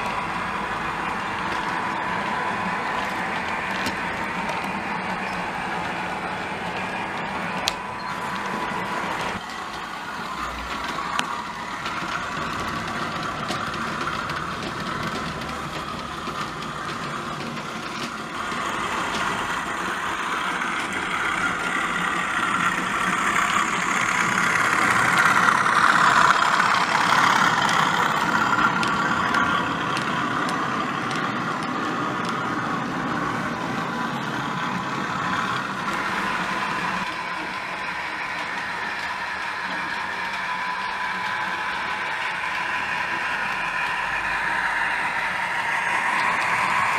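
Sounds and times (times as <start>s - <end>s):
model locomotive diesel engine sound: 0.0s - 46.9s
wheels clicking on track: 0.0s - 46.9s.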